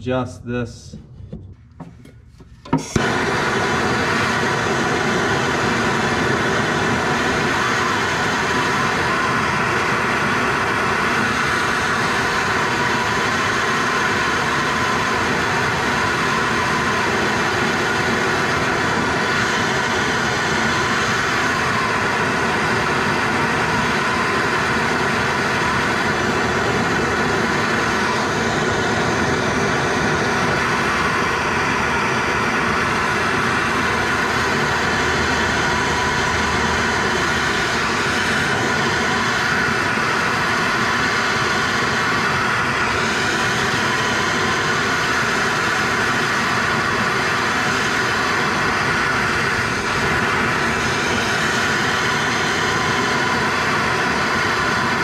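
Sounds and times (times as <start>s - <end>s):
gas torch hissing: 2.6s - 55.0s.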